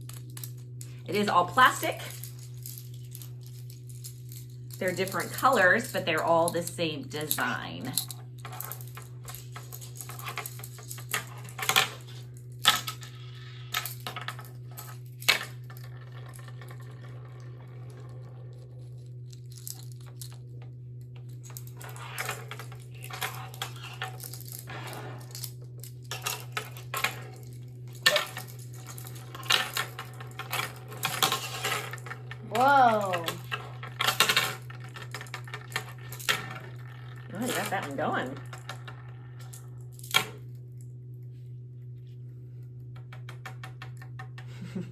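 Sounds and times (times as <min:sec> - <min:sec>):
low hum: 0:00.0 - 0:44.9.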